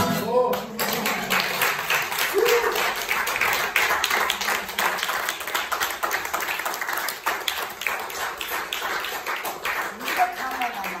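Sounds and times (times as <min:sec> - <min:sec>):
audience applauding: 0:00.5 - 0:11.0.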